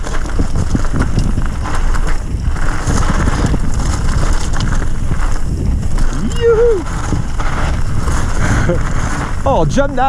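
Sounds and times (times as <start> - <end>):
bike tyres rolling over gravel: 0.0 - 10.0
stones clicking and bike rattle: 0.0 - 10.0
wind rushing over microphone: 0.0 - 10.0.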